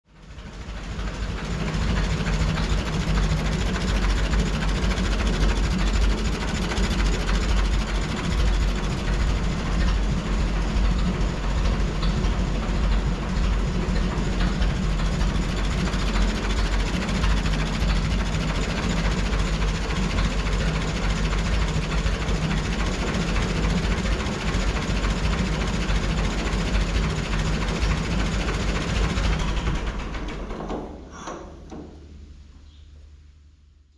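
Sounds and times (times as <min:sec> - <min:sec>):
tractor engine idling: 0:00.2 - 0:31.1.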